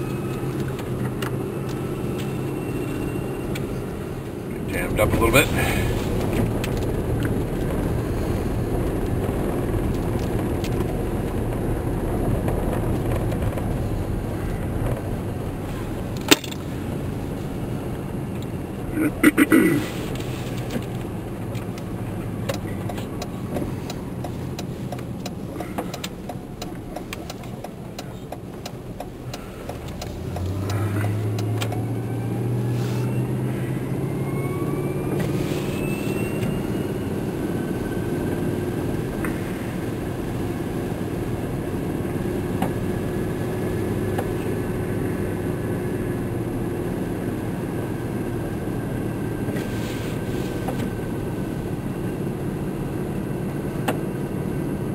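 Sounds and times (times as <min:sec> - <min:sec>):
rising engine whine: 0:00.0 - 0:19.4, 0:20.0 - 0:54.9
vehicle engine running: 0:00.0 - 0:54.9.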